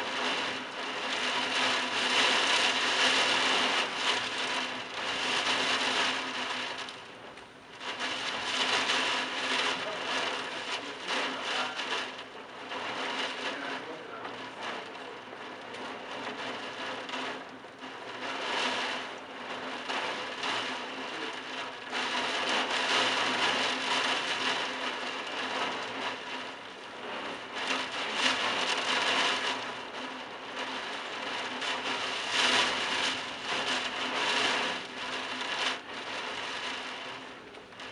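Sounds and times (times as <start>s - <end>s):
heavy rain pouring on roof tiles: 0.0s - 37.9s.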